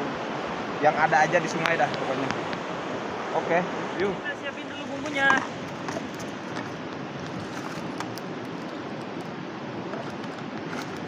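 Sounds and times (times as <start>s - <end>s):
shallow river rushing: 0.0s - 11.0s.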